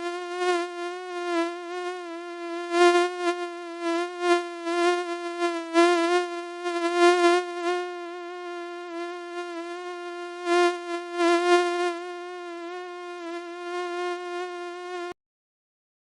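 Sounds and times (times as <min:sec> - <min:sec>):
mosquito whine: 0:00.0 - 0:15.2.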